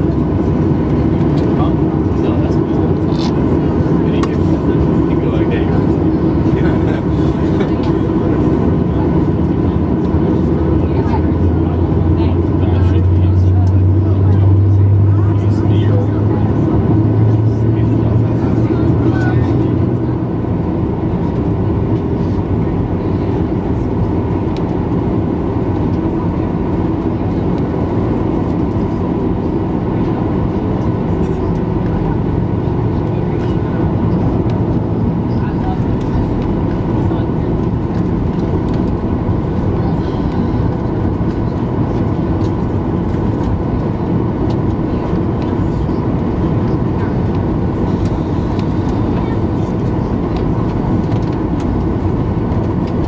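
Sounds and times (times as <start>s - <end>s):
airplane cabin rumble: 0.0s - 53.0s
faint jet engine whine: 0.0s - 53.0s.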